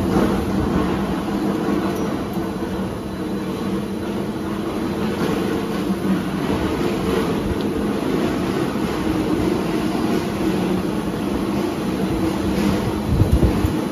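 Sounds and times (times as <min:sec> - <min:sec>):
machine hum and rumble: 0:00.0 - 0:13.9.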